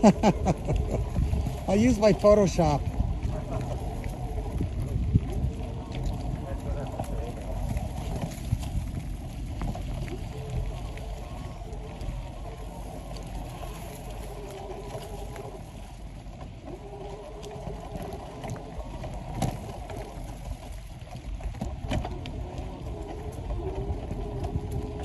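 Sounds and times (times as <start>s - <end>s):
bicycle tyres rumbling on dirt: 0.0s - 25.0s.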